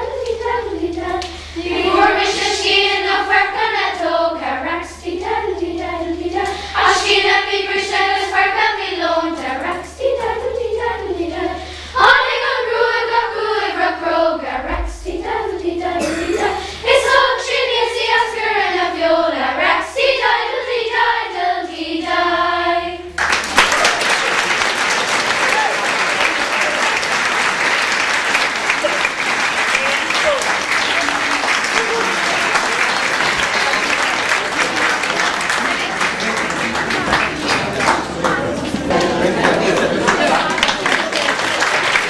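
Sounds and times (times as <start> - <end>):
children's choir singing: 0.0 - 42.0.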